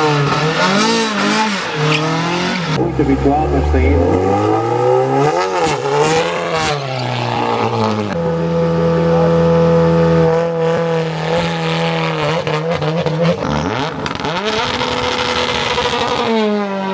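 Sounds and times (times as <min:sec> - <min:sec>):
race car engine revving: 0:00.0 - 0:16.9.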